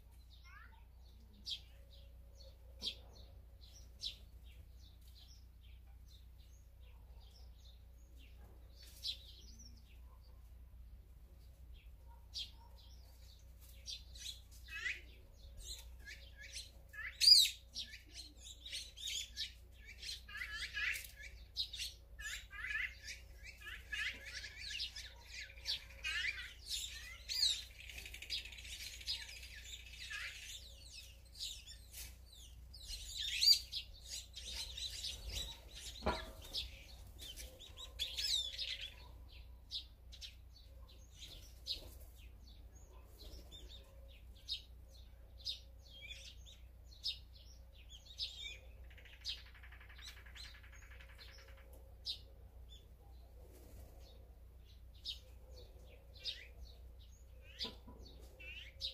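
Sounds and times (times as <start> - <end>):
birds chirping and calling: 0.0 - 58.9.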